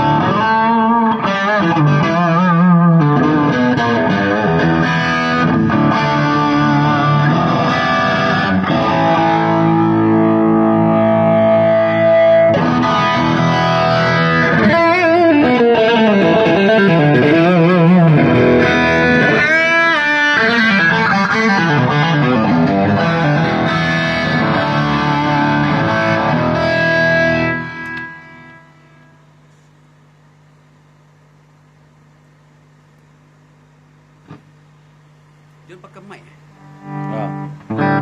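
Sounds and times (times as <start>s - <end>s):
distorted electric guitar: 0.0s - 29.4s, 35.6s - 38.0s.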